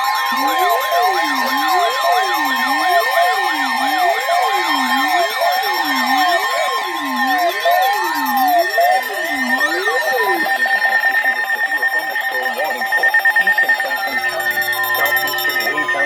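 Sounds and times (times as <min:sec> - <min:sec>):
rapid pulsing beep: 0:00.0 - 0:16.0
steady high electronic tone: 0:00.0 - 0:16.0.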